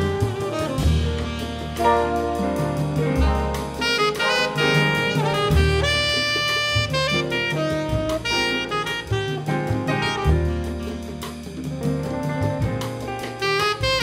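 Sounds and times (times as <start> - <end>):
tenor saxophone melody: 0.0 - 11.4, 13.3 - 14.0
double bass: 0.0 - 14.0
drums with cymbal beat: 0.0 - 14.0.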